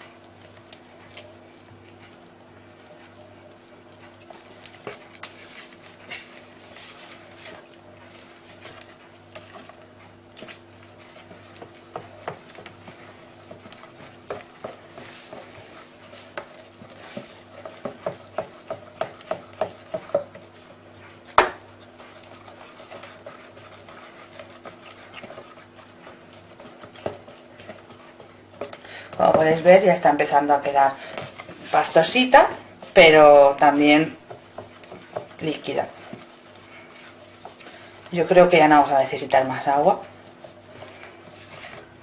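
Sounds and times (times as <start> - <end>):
spoon stirring batter: 0.0 - 42.0.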